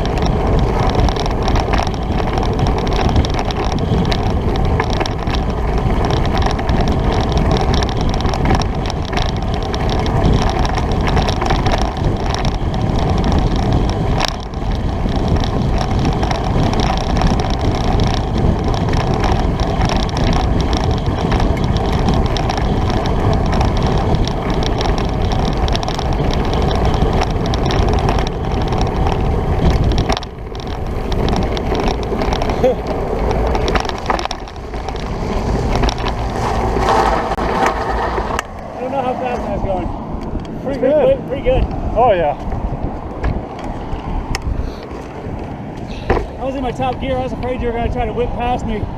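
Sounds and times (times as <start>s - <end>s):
bicycle tyre and drivetrain noise: 0.0s - 48.9s
wind rushing over microphone: 0.0s - 48.9s.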